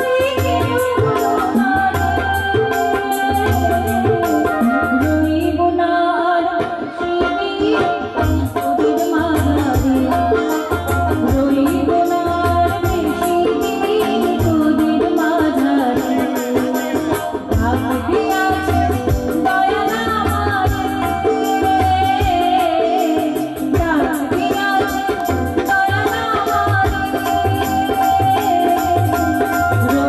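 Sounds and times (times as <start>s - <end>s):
small percussion: 0.0s - 5.5s, 6.6s - 30.0s
harmonium: 0.0s - 30.0s
woman singing devotional song: 0.0s - 30.0s.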